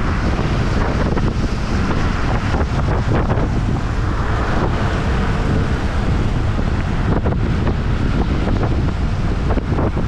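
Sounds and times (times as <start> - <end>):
tyres hissing on wet road: 0.0 - 10.0
wind buffeting microphone: 0.0 - 10.0.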